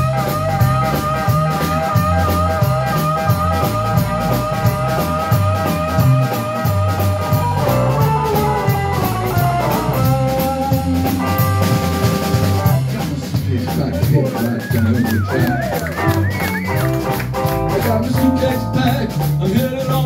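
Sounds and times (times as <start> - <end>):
electric guitar lead: 0.0 - 13.2, 14.3 - 20.0
drum kit with cymbals: 0.0 - 20.0
electric bass: 0.0 - 20.0.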